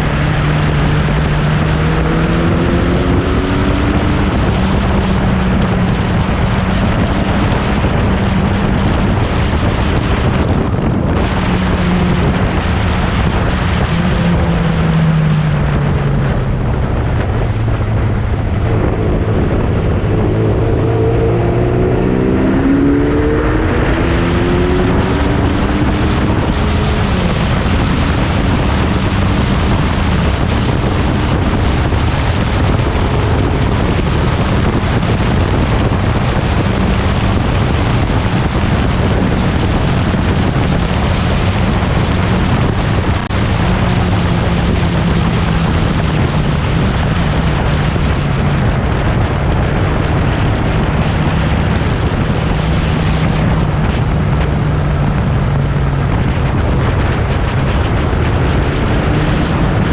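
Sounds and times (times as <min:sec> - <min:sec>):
racing car engines: 0:00.0 - 0:59.9
wind buffeting microphone: 0:00.0 - 0:59.9.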